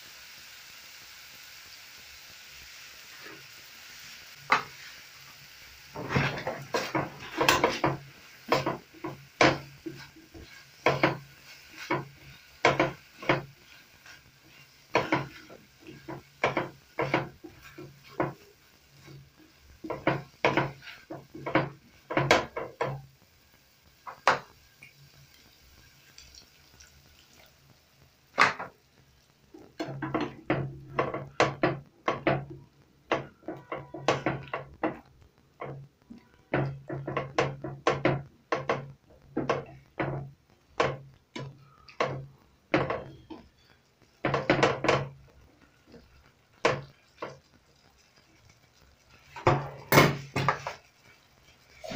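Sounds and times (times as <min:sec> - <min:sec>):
spatula scraping frying pan: 0:03.1 - 0:23.2, 0:28.4 - 0:51.9.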